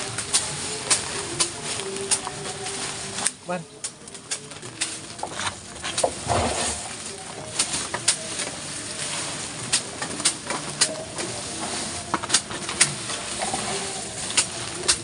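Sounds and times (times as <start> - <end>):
leaves rustling in plastic drum: 0.0 - 15.0.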